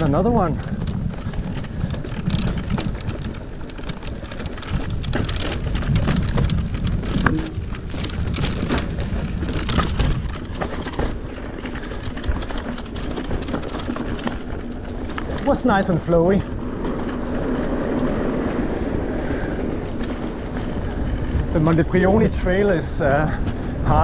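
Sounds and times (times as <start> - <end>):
bike clicks and clatters: 0.0 - 24.0
bike tyres crunching over stones: 0.0 - 24.0
wind rumbling on microphone: 0.0 - 24.0.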